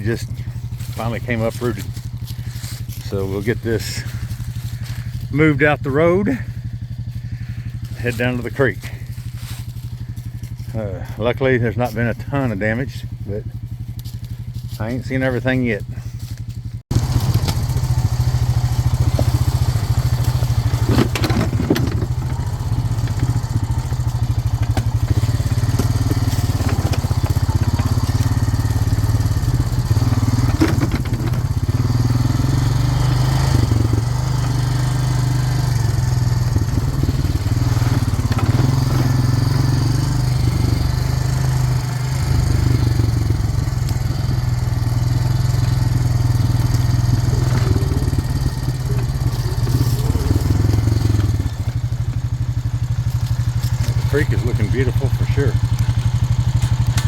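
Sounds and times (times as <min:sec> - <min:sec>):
atv engine running: 0:00.0 - 0:57.0
knocks and crackles over rough ground: 0:00.0 - 0:57.0.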